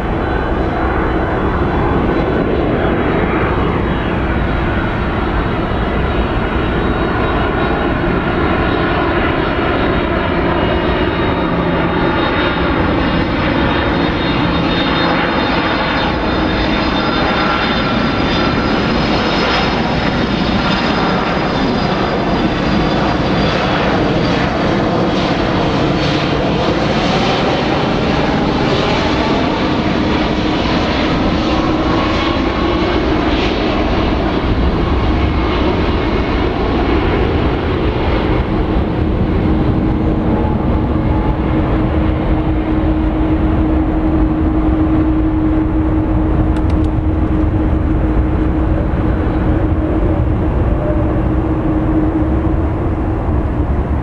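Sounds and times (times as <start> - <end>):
jet engine rumble with whine: 0.0 - 54.0.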